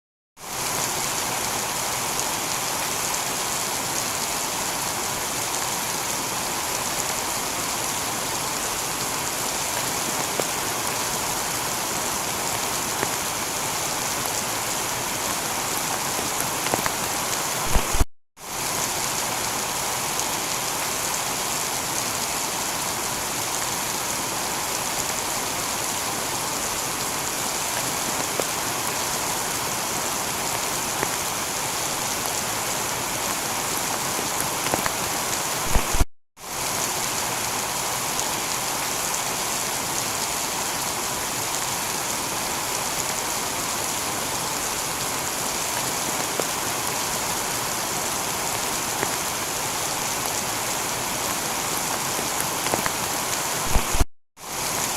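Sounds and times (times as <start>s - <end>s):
heavy rain on a tiled roof: 0.4s - 54.9s.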